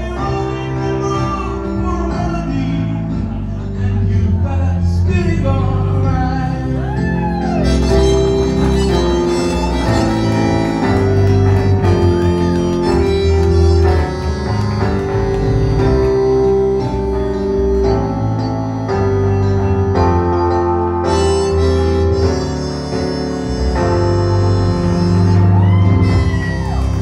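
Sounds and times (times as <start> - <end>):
bass: 0.0 - 27.0
keyboard chords: 0.0 - 27.0.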